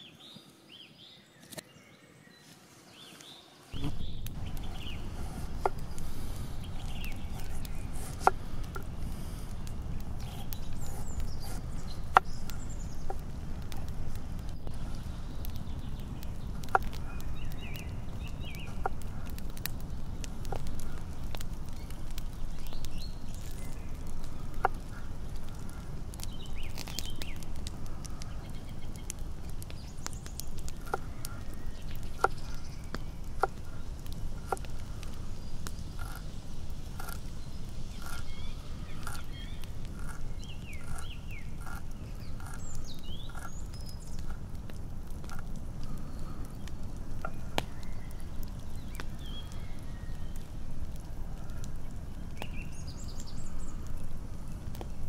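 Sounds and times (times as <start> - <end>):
faint bird chirps: 0.0 - 44.5, 45.3 - 54.6
low outdoor rumble: 3.7 - 55.0.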